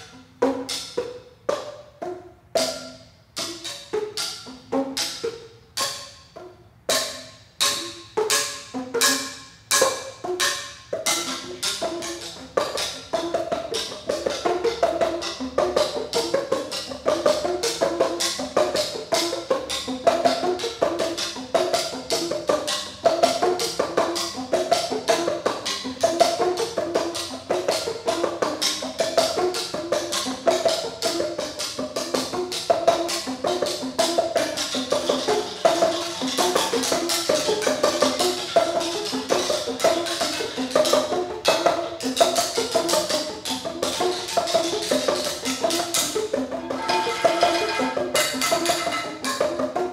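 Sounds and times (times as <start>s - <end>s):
paddles striking ceramic tubes: 0.0s - 49.9s.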